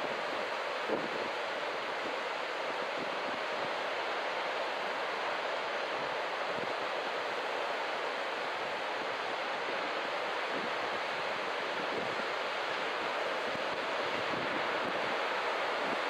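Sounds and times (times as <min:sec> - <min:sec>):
ocean surf breaking on a beach: 0:00.0 - 0:16.0.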